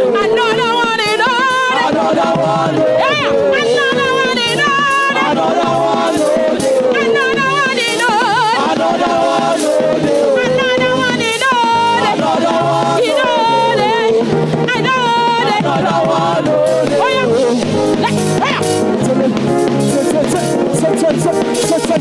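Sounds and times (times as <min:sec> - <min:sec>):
shaker percussion: 0:00.0 - 0:14.2, 0:15.6 - 0:22.0
church praise music: 0:00.0 - 0:22.0.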